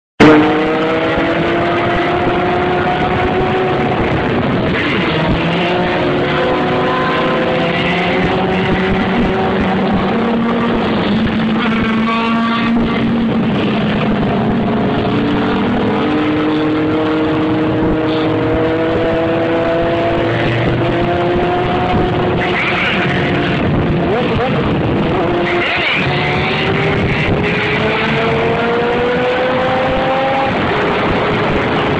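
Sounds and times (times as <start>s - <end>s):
road and wind noise: 0.2s - 31.9s
traffic engines: 0.2s - 31.9s.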